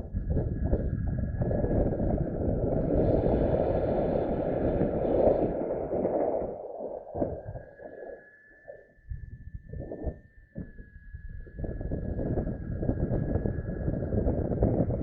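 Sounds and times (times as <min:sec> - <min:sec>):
wind buffeting microphone: 0:00.0 - 0:08.2, 0:09.1 - 0:15.0
faint high whine: 0:00.0 - 0:15.0.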